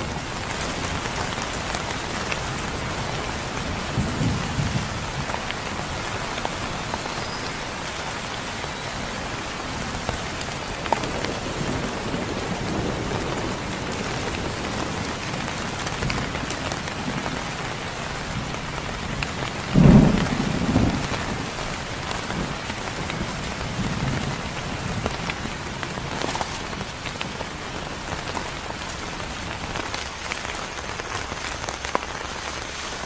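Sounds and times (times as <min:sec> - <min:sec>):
thunder rumbling: 0:00.0 - 0:07.4, 0:09.0 - 0:29.9
heavy rain: 0:00.0 - 0:33.0.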